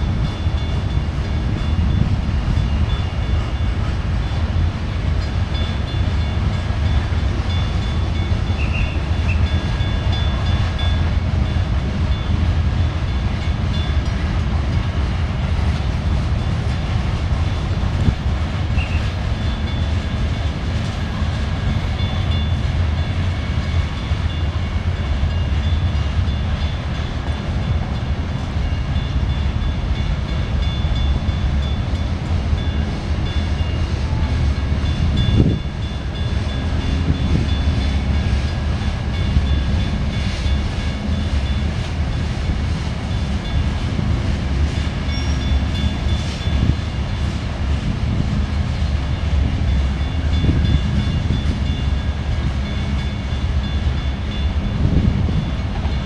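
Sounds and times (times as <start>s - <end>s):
train cars rumbling on rails: 0.0s - 56.0s.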